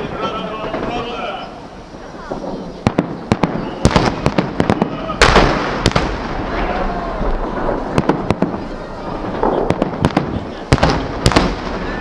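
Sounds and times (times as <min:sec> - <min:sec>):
crowd noise: 0:00.0 - 0:12.0
fireworks bangs: 0:00.0 - 0:12.0.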